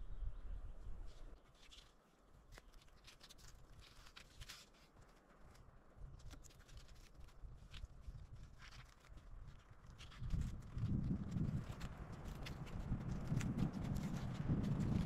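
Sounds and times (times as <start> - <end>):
faint small clicks and rustles: 1.0 - 15.0.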